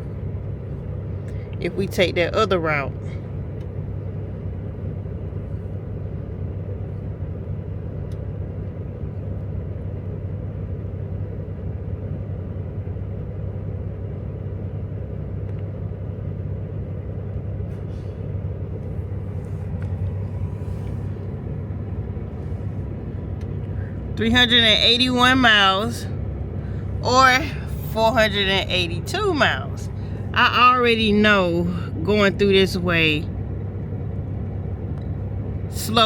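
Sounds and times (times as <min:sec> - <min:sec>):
diesel truck engine rumble: 0:00.0 - 0:36.0.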